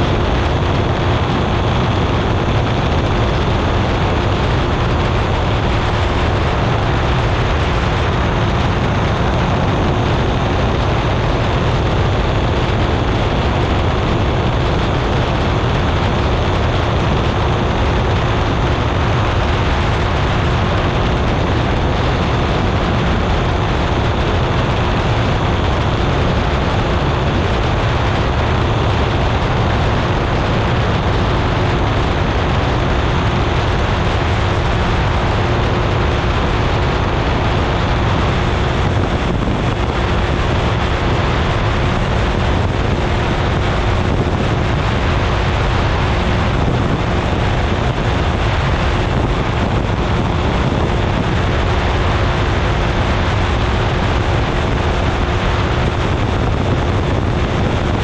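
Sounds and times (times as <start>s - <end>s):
aircraft engine and propeller drone: 0.0s - 58.0s
wind rushing over microphone: 0.0s - 58.0s.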